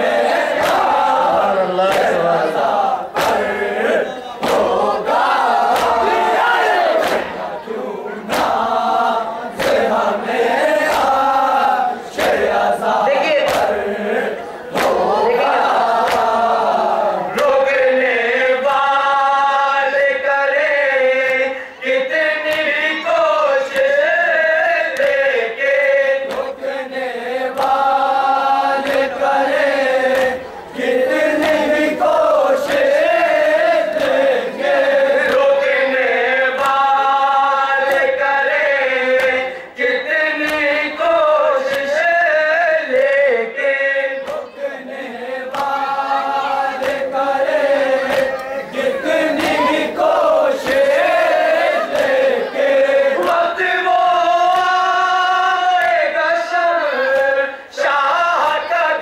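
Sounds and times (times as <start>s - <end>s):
group of men chanting: 0.0s - 59.0s.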